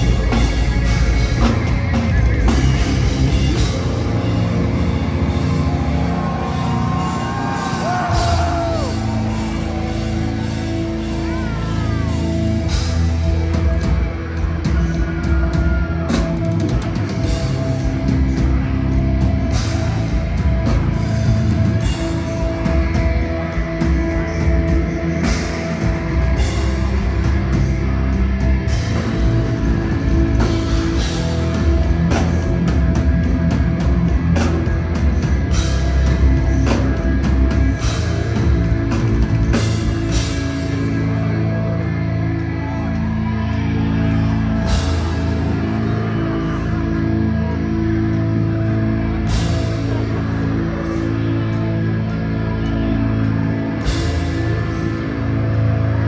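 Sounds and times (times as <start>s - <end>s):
distorted guitars and bass: 0.0s - 56.0s
drum kit: 0.0s - 56.0s.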